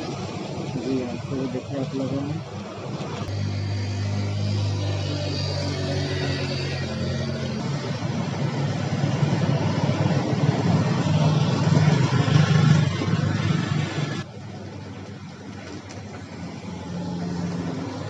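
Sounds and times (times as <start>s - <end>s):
steady engine hum: 0.0s - 18.0s
vehicle passing on wet road: 0.0s - 18.0s.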